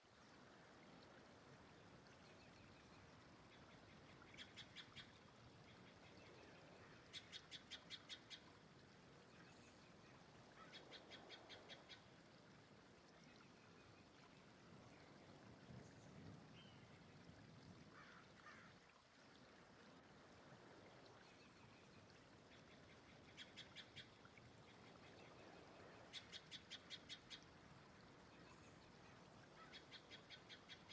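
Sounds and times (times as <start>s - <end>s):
soft steady hiss: 0.0s - 30.9s.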